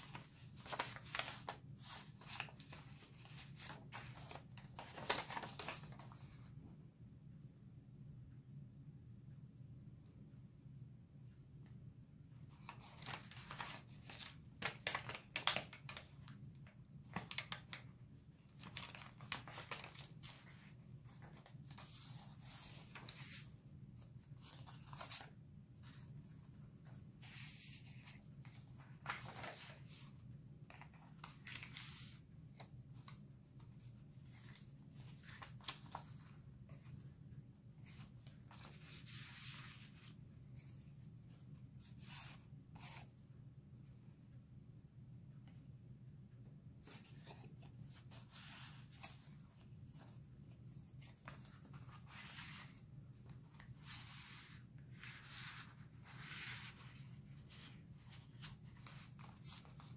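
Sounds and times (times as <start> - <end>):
paper and card rustling: 0.0 - 6.6, 12.4 - 43.3, 46.8 - 59.9.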